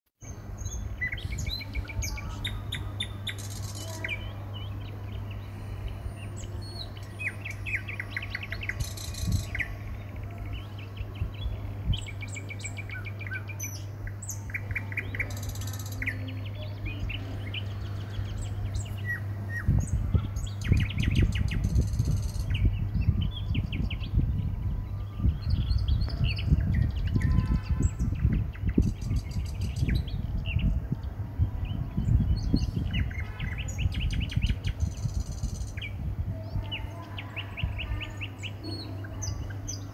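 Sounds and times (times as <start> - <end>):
birds chirping and trilling: 0.2 - 39.9
low uneven rumble: 0.2 - 39.9
steady low hum: 0.2 - 39.9.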